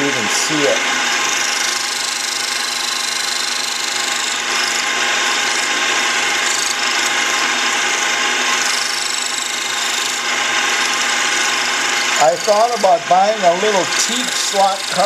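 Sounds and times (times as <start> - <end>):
burr grinding steel with whine: 0.0 - 15.0.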